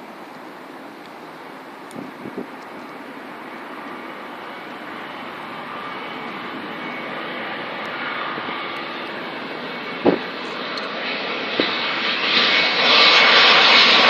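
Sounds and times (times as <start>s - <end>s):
faint engine whine: 0.0s - 14.0s
jet airliner engine rush: 0.0s - 14.0s.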